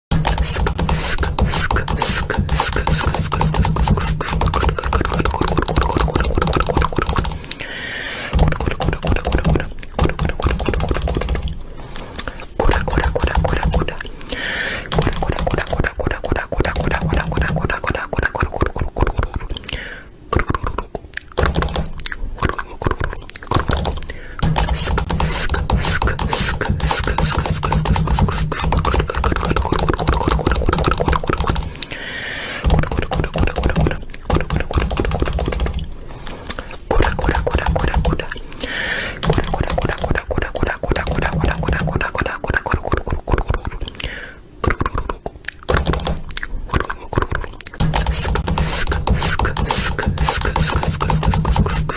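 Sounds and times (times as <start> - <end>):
beatboxing mouth sounds: 0.0 - 32.0, 32.6 - 51.9.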